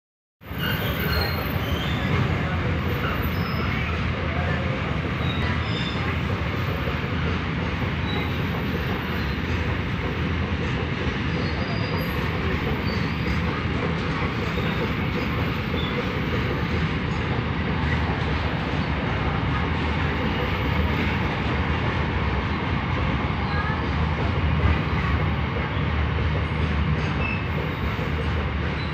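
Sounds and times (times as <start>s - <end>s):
freight train wheels on rail: 0.4s - 28.9s.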